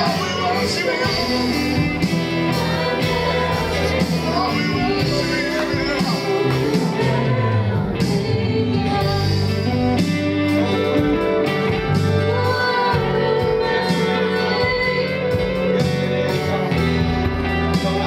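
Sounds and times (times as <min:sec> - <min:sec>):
guitar chords: 0:00.0 - 0:18.0
keyboard chords: 0:00.0 - 0:18.0
person singing: 0:00.0 - 0:18.0
steady drum beat: 0:00.0 - 0:18.0.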